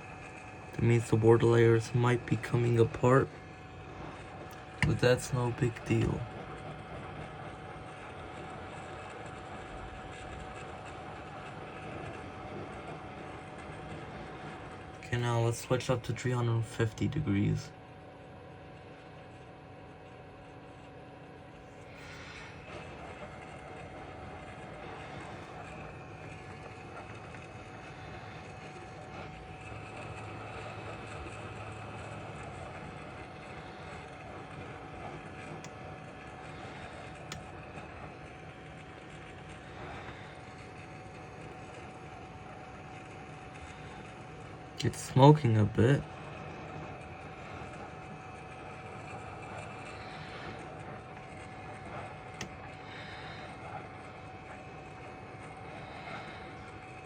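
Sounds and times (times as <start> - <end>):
faint steady whine: 0.0 - 57.0
hot air station blowing: 0.0 - 57.0.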